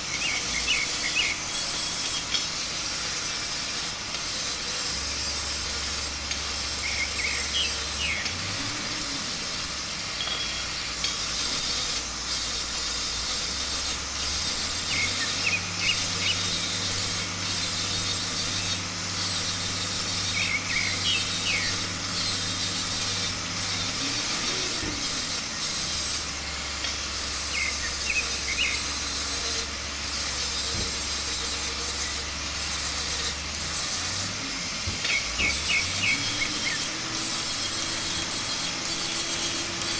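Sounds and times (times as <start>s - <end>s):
angle grinder cutting steel pipe: 0.0s - 39.9s.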